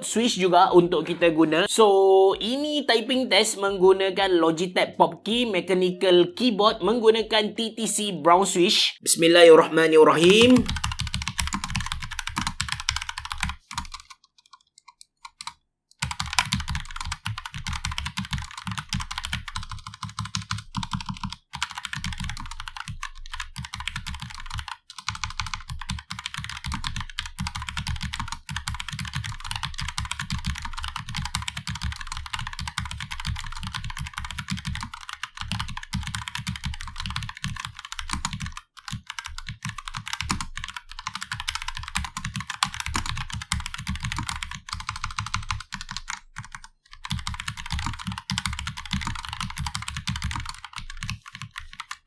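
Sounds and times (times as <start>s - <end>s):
mechanical keyboard typing: 10.0s - 52.0s.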